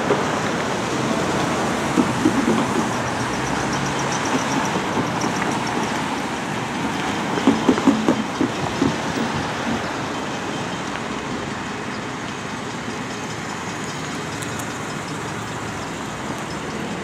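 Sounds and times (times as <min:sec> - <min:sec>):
tyres clunking over rails: 0:00.0 - 0:17.0
tyres hissing on wet pavement: 0:00.0 - 0:17.0.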